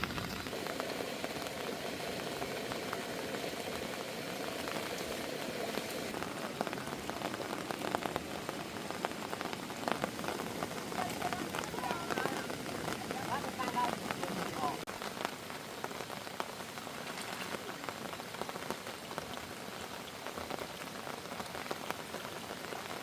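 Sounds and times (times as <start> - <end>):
heavy rain falling: 0.0 - 23.0
raindrops ticking on a surface: 0.0 - 23.0.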